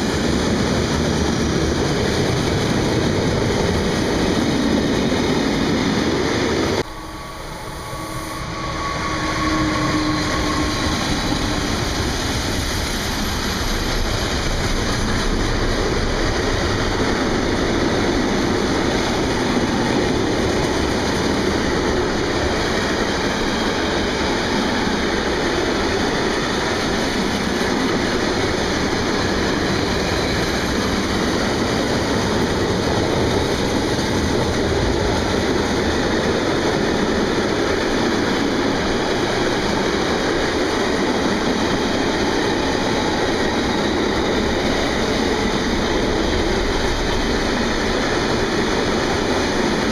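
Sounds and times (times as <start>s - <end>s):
freight train wagons rumbling and rattling: 0.0s - 49.9s.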